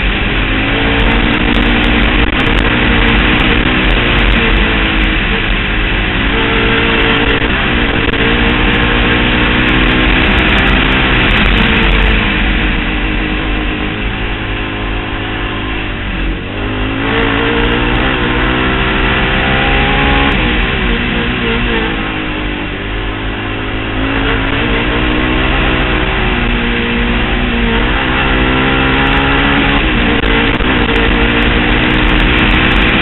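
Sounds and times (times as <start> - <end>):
quad bike engine revving: 0.0 - 33.0.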